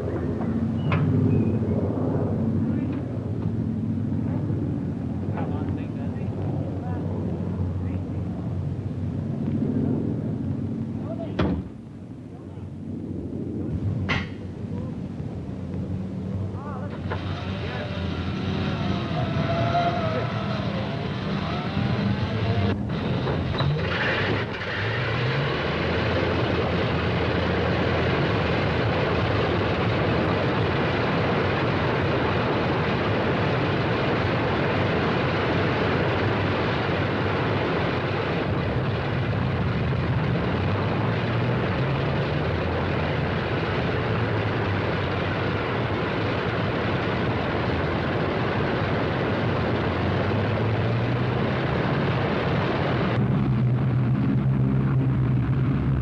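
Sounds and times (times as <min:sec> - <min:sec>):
piston aircraft engines droning: 0:00.0 - 0:56.0.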